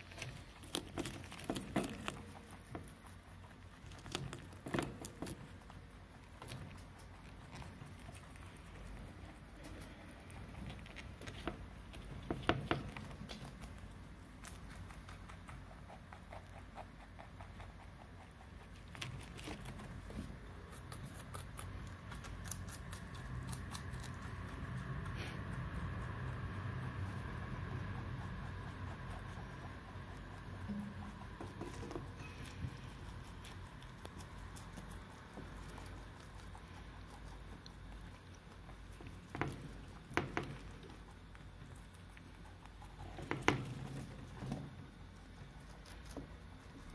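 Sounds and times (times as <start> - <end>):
rabbits crunching cabbage: 0.0 - 46.9.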